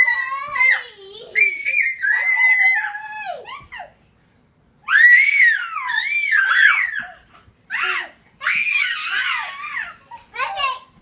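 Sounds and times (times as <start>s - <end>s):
young children squealing: 0.0s - 3.6s, 4.8s - 10.0s.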